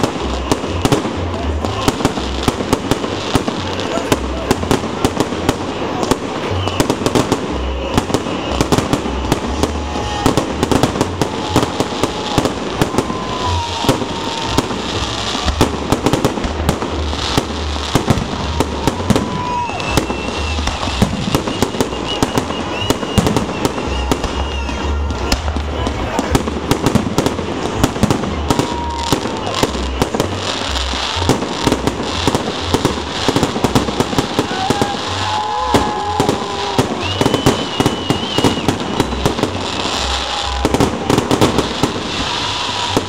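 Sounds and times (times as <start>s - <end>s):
firework bangs and crackles: 0.0s - 43.0s.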